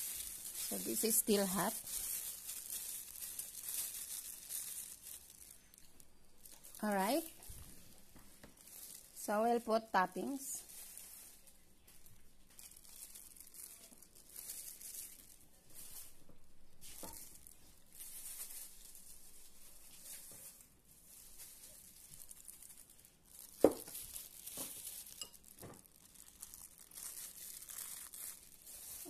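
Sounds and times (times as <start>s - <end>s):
soft rustling of sprinkled coconut: 0.0s - 29.0s.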